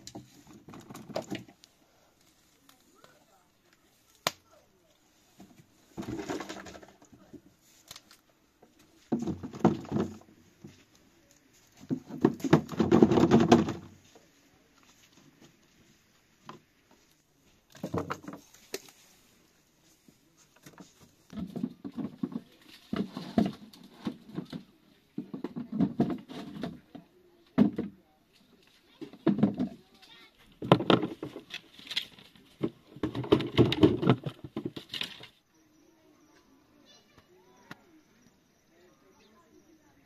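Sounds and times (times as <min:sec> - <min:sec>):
rustling herbs and vegetables: 0:00.0 - 0:37.0.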